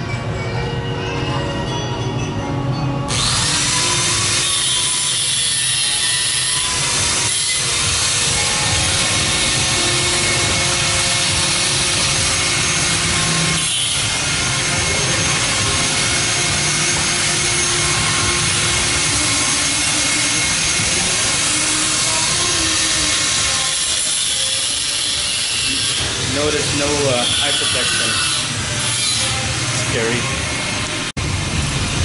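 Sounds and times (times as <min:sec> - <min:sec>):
angle grinder grinding metal: 0:03.1 - 0:31.1.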